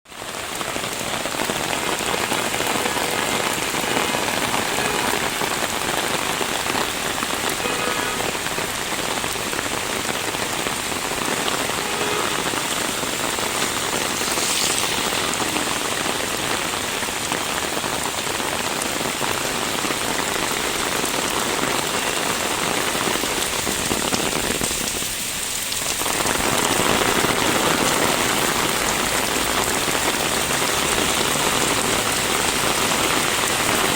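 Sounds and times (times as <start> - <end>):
rain pattering on street and roofs: 0.0 - 33.9.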